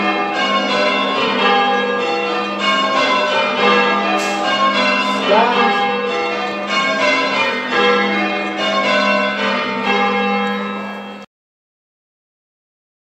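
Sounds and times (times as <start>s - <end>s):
church bells change ringing: 0.0s - 11.3s.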